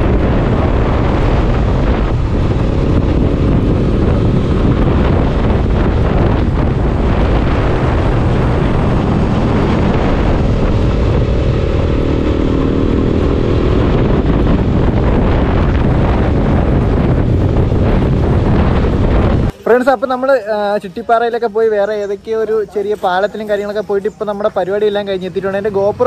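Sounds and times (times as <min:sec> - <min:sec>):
motorcycle engine running: 0:00.0 - 0:21.2
wind rushing over microphone: 0:00.0 - 0:26.0.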